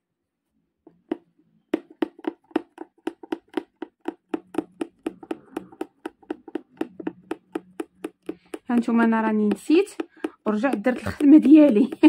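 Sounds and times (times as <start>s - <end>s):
punch needle tapping through fabric: 0.9s - 12.0s.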